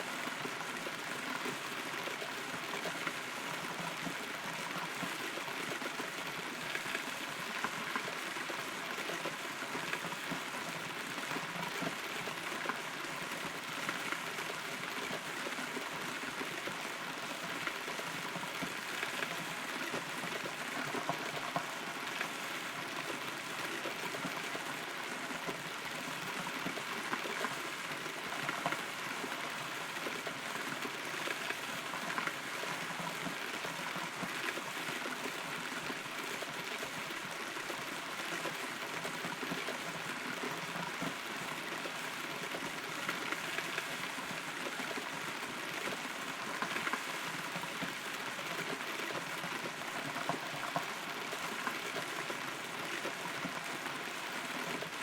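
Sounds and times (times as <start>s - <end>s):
raindrops striking close by: 0.0s - 55.0s
steady rain: 0.0s - 55.0s.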